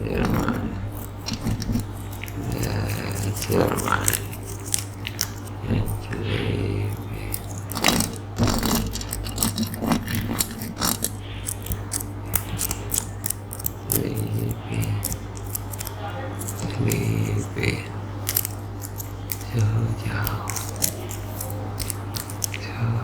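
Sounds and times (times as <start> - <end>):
breathy mouth noises: 0.0 - 23.0
steady low hum: 0.0 - 23.0.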